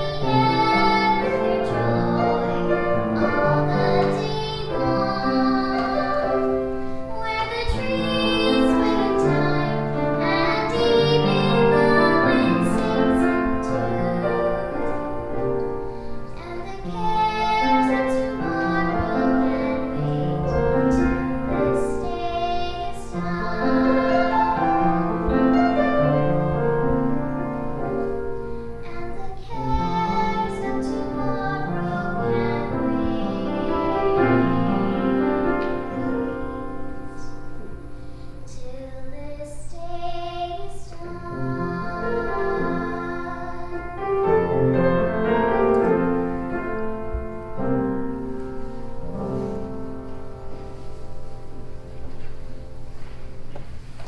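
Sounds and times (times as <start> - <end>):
girl singing a folk song: 0.0 - 15.6, 16.3 - 26.9, 28.5 - 46.1
upright piano: 0.0 - 54.0.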